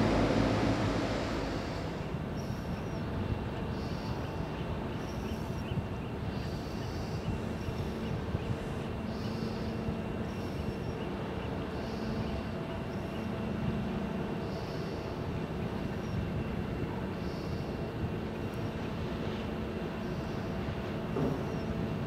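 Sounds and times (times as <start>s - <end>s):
ship engines rumbling: 0.0s - 5.6s, 6.2s - 22.0s.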